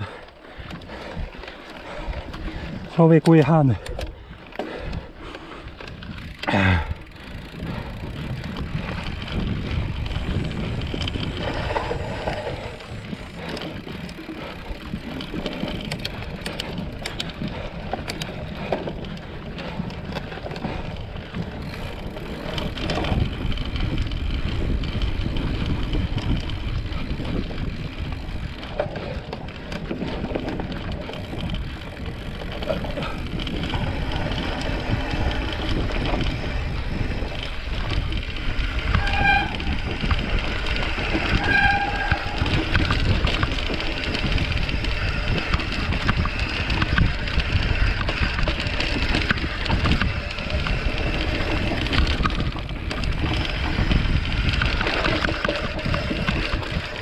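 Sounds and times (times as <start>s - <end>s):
bike rattling and clicking: 0.0s - 57.0s
bike tyres rumbling on ground: 0.0s - 57.0s
wind buffeting microphone: 0.0s - 57.0s.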